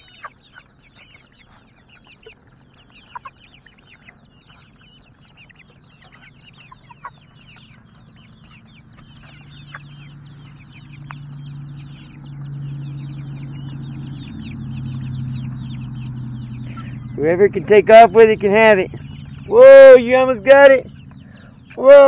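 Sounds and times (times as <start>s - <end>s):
chicks peeping: 0.0s - 22.0s
low steady hum: 0.0s - 22.0s.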